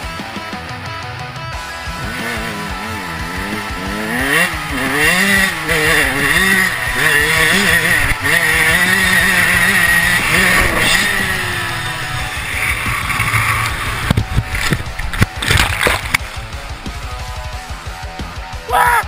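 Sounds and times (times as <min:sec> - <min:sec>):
dirt bike engine revving: 0:00.0 - 0:18.6.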